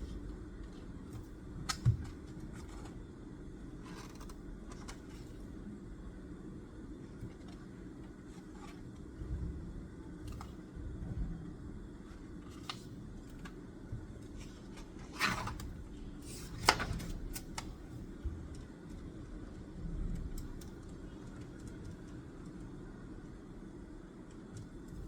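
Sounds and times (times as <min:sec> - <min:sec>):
low room rumble: 0:00.0 - 0:25.0.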